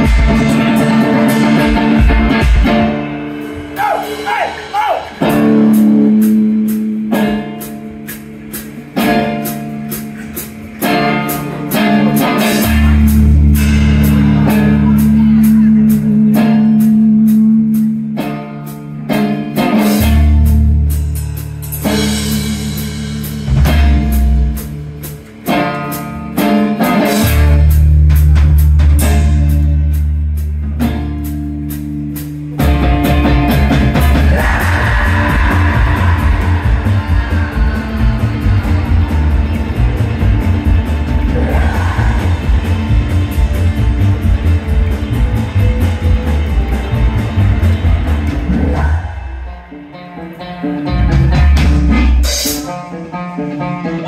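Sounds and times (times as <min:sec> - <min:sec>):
drum kit: 0:00.0 - 0:54.0
electric guitar: 0:00.0 - 0:54.0
upright bass: 0:00.0 - 0:54.0.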